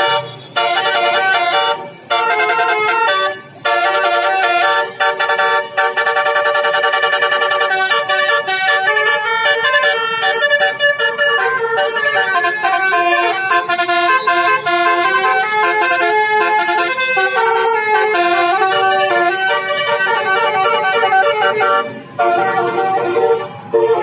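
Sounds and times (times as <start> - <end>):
musical air horn playing tune: 0.0 - 24.0.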